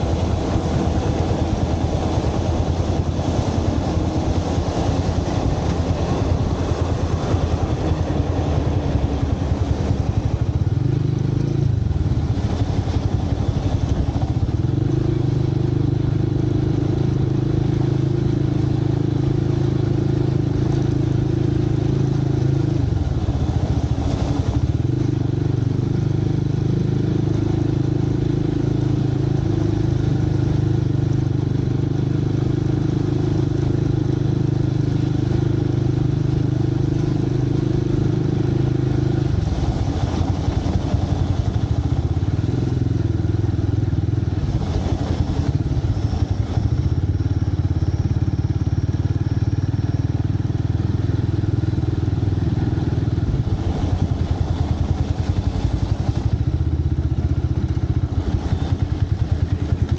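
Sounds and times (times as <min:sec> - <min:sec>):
motorcycle engine running: 0:00.0 - 0:59.9
road and traffic noise: 0:00.0 - 0:59.9.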